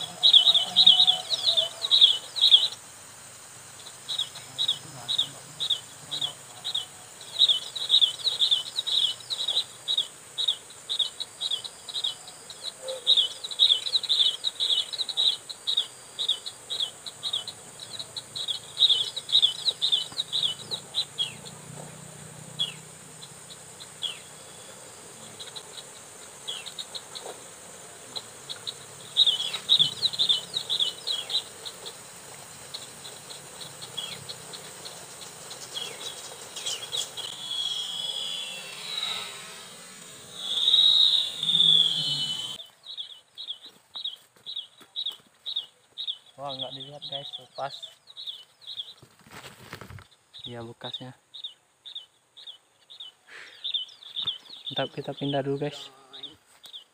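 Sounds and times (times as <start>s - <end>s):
bird sharp high chirps: 0.0s - 2.8s, 3.7s - 27.4s, 28.1s - 32.0s, 32.6s - 49.0s, 49.8s - 56.9s.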